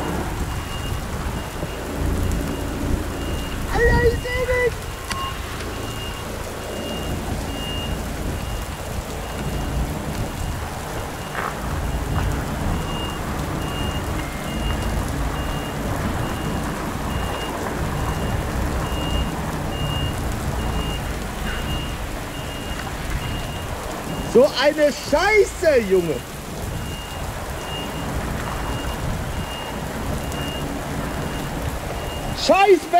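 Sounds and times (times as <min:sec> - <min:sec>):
truck reversing alarm beeping: 0:00.0 - 0:32.7
diesel engine rumble: 0:00.0 - 0:32.9
rain hissing: 0:00.0 - 0:32.9.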